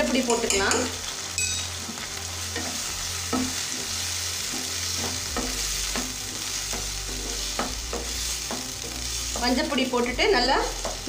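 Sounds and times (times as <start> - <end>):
tomatoes sizzling in hot oil: 0.0 - 11.0
wooden spatula scraping: 1.6 - 11.0.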